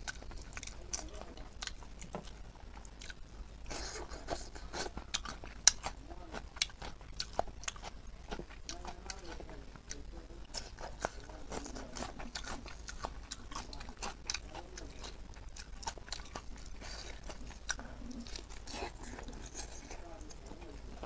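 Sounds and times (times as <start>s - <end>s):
man chewing and biting: 0.0s - 1.0s, 1.6s - 9.0s, 9.8s - 21.0s.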